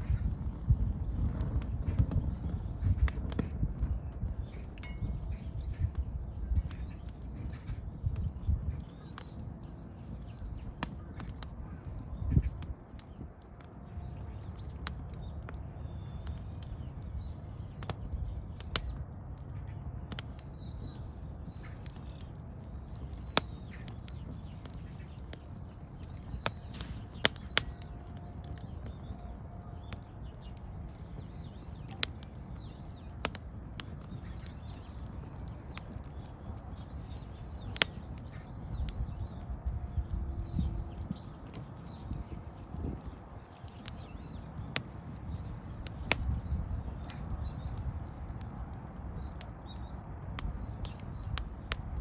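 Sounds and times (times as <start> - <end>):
birds chirping faintly: 0.0 - 52.0
wood fire crackling and popping: 0.0 - 52.0.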